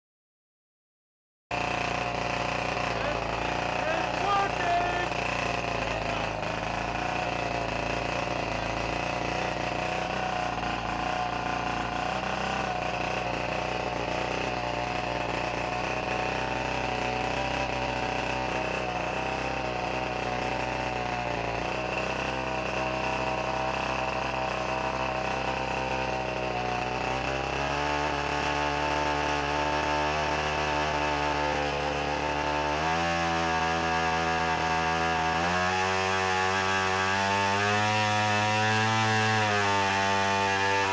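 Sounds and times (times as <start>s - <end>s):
model plane gasoline engine running: 1.5s - 40.9s.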